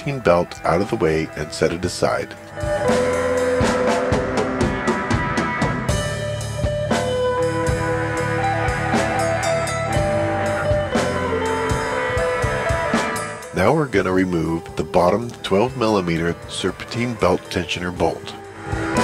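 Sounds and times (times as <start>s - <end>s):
music with drums and guitar: 0.0s - 19.0s.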